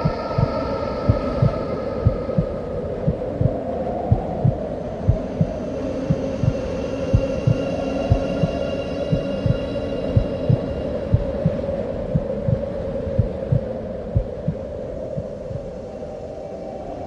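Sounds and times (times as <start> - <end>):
heartbeat: 0.0 - 15.8
low steady drone: 0.0 - 17.0.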